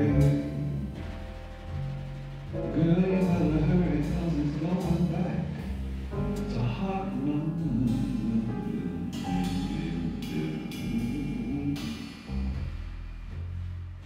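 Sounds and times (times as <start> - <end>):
drum kit: 0.0 - 14.0
piano: 0.0 - 14.0
upright double bass: 0.0 - 14.0.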